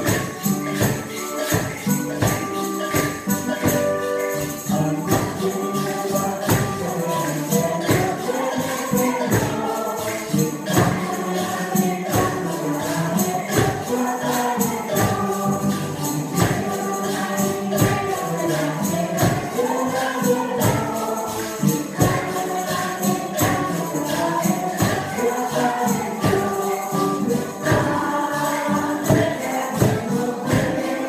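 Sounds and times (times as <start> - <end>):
group of voices singing: 0.0 - 31.0
shakers: 0.0 - 31.0
tambourine jingling: 0.0 - 31.0.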